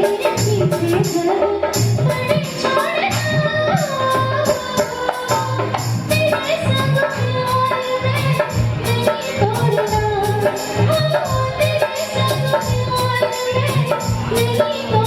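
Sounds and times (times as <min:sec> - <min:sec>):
bass and percussion beat: 0:00.0 - 0:15.0.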